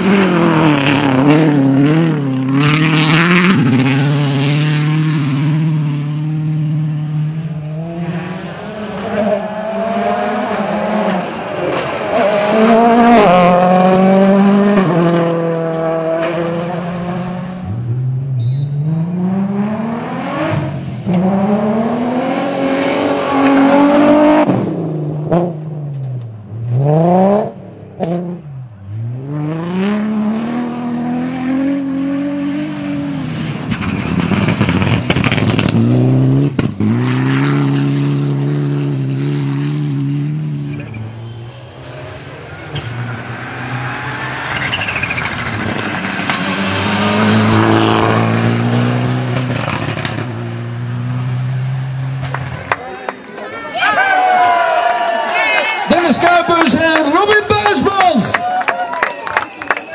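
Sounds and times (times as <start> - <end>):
rally car engines revving: 0.0 - 53.2, 54.9 - 58.4.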